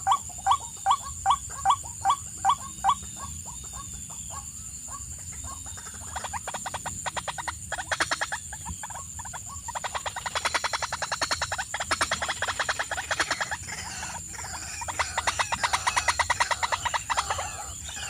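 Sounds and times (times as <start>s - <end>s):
bird clucking calls: 0.0s - 18.0s.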